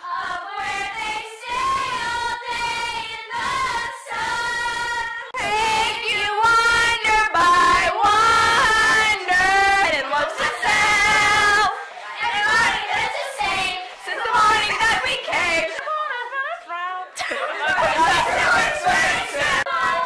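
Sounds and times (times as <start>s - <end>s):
girls singing loudly: 0.0s - 20.0s.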